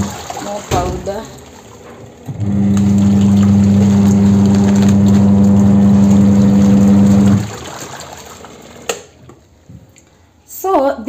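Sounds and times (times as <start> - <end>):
washing machine motor humming: 0.0 - 9.3.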